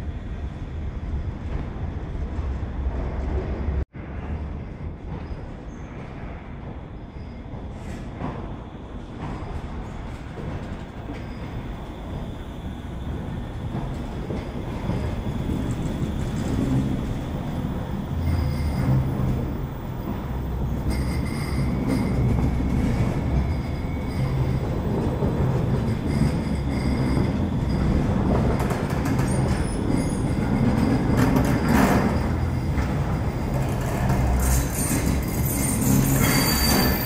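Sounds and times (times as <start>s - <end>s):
tram rumbling past: 0.0s - 37.0s.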